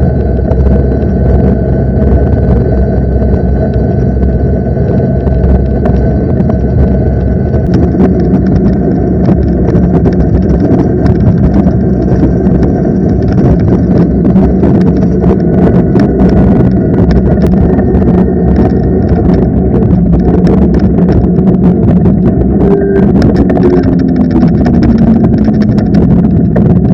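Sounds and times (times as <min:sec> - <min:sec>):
electric motor whine: 0:00.0 - 0:26.9
wind rush on microphone: 0:00.0 - 0:26.9.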